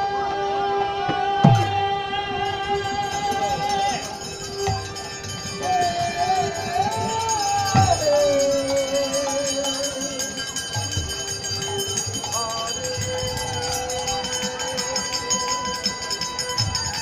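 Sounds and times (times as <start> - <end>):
harmonium: 0.0 - 17.0
steady jingling: 2.7 - 17.0.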